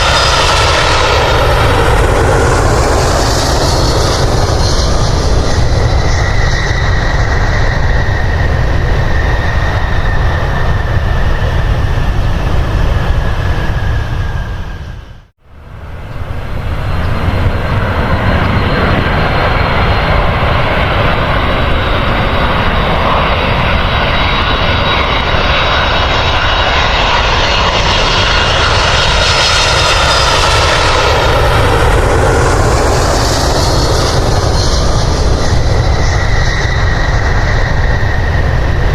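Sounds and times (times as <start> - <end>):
jet engines roaring and whining: 0.0 - 38.9.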